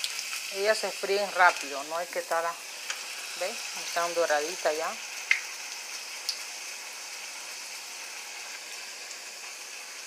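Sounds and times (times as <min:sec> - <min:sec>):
dough sizzling in hot oil: 0:00.0 - 0:10.0.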